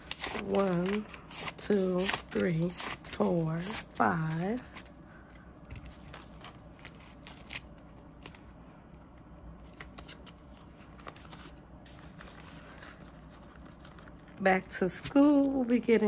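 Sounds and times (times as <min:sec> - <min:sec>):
paper bills rustling: 0:00.0 - 0:04.9, 0:05.8 - 0:08.5, 0:09.6 - 0:15.6.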